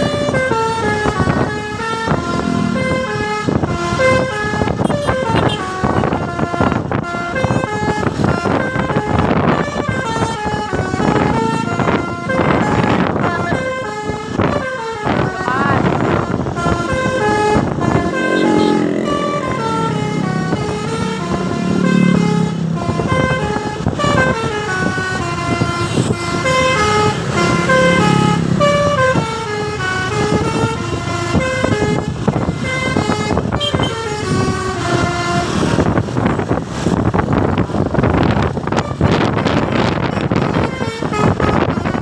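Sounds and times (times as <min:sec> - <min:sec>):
bus horn playing a tune: 0:00.0 - 0:36.4, 0:38.3 - 0:42.0.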